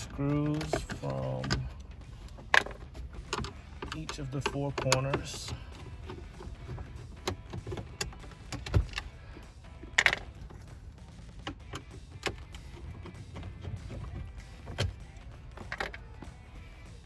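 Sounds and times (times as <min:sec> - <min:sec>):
clicks and knocks of metal on plastic: 0:00.0 - 0:16.4.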